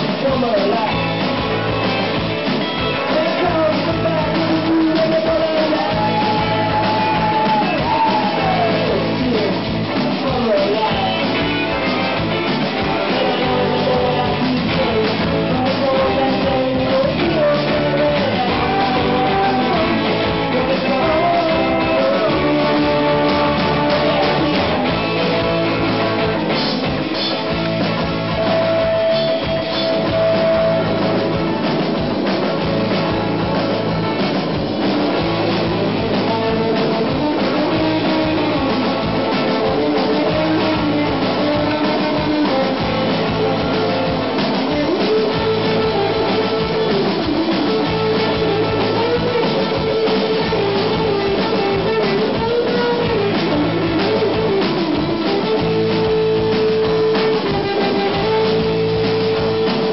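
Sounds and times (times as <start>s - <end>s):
person singing: 0.0s - 26.5s, 35.0s - 59.9s
drum kit: 0.0s - 59.9s
electric bass: 0.0s - 59.9s
electric guitars: 0.0s - 59.9s.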